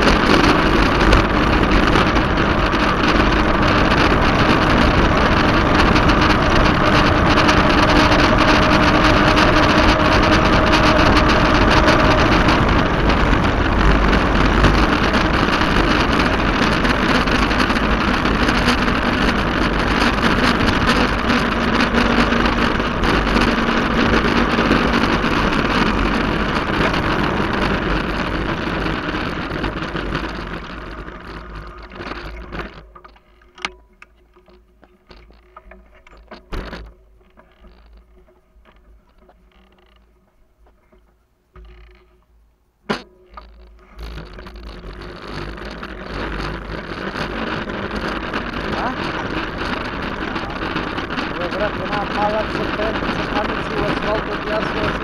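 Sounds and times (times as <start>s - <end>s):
wind rushing over microphone: 0.0s - 33.2s, 43.4s - 55.0s
faint clicks and rattles: 0.0s - 55.0s.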